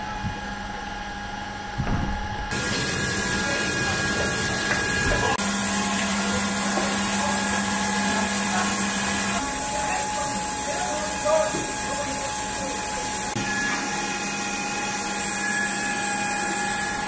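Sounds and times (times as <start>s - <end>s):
high whine: 0.0s - 17.0s.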